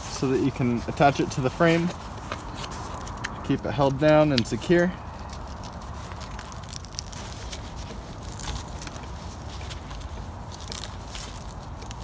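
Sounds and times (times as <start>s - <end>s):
velcro rasping crackles: 0.0s - 12.0s.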